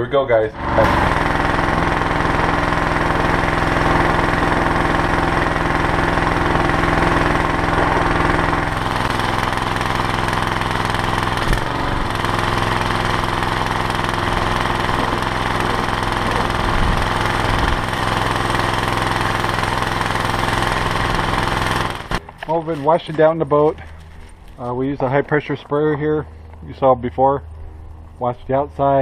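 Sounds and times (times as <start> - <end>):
pressure washer motor: 0.3 - 25.2.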